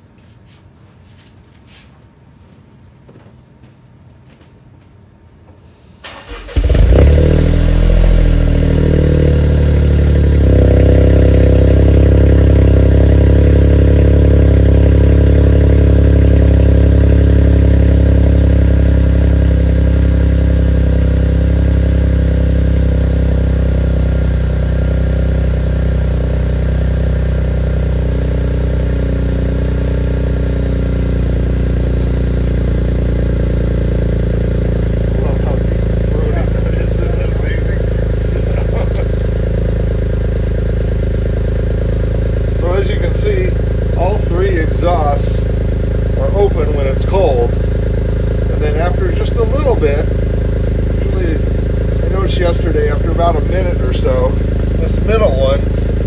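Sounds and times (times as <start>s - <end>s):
car engine cold-starting and idling: 6.0s - 56.0s.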